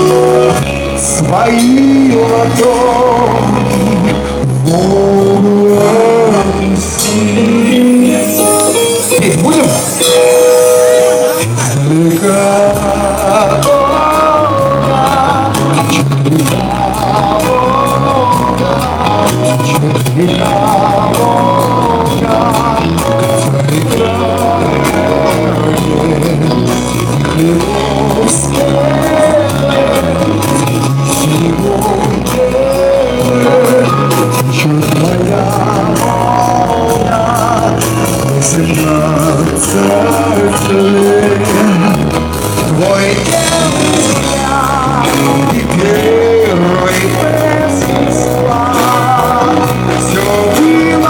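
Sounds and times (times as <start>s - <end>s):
live band playing slow song: 0.0s - 51.0s
person singing: 0.0s - 51.0s.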